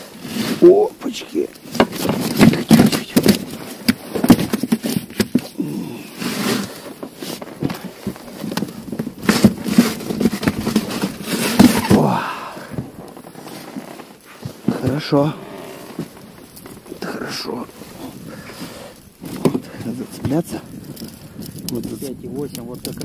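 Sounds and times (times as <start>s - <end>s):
fabric bag rustling: 0.0s - 21.3s.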